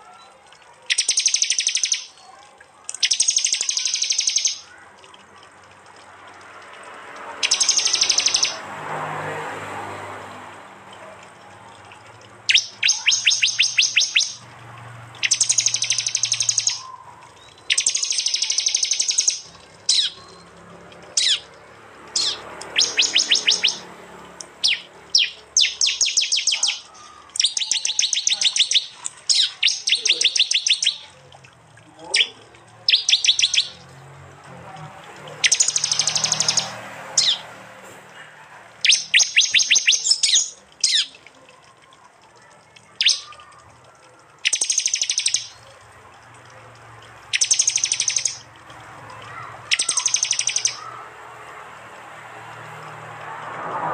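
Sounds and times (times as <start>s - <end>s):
bird calling in ticking trills: 0.0s - 8.6s, 11.0s - 34.0s, 35.0s - 37.5s, 38.5s - 51.0s.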